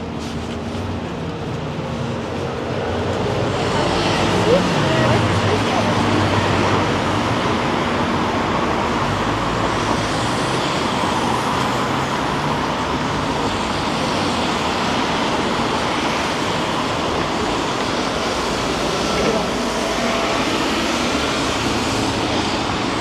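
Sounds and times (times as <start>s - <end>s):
passing vehicles: 0.0s - 23.0s.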